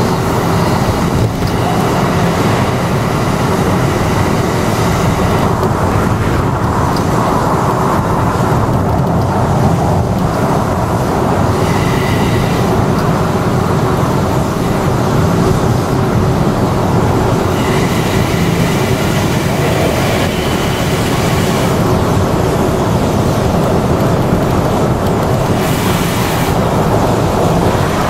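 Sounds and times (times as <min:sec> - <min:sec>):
car road noise: 0:00.0 - 0:28.0
train rolling rumble: 0:00.0 - 0:28.0.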